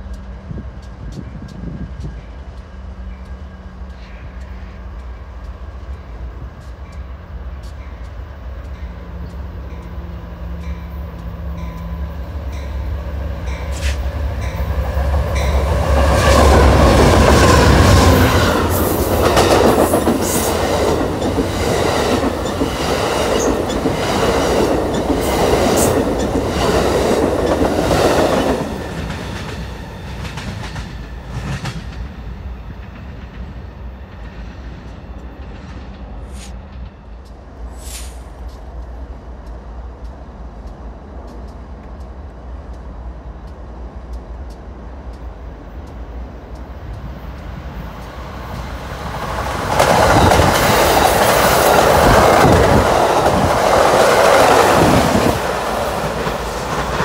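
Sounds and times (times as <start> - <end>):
diesel locomotive engines: 0.0 - 57.0
train wheels clicking over rail joints: 0.1 - 57.0.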